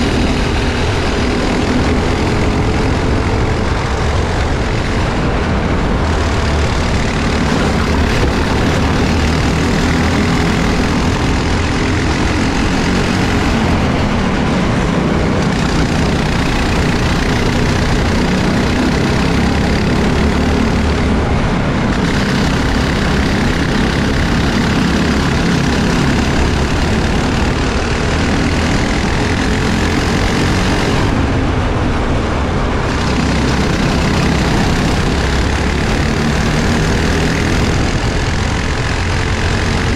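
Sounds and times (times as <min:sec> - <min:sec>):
kart engine racing: 0:00.0 - 0:39.9
other kart engines nearby: 0:00.0 - 0:39.9.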